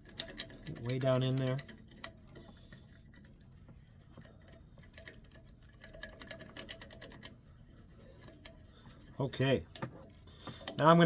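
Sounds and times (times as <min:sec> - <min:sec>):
wax scrubbing clicks and scratches: 0:00.0 - 0:11.0.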